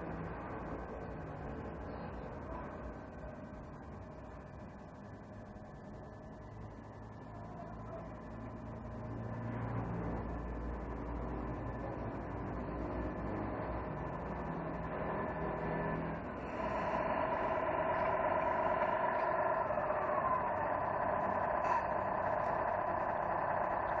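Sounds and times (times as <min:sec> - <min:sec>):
toy truck motor whine: 0:00.0 - 0:24.0.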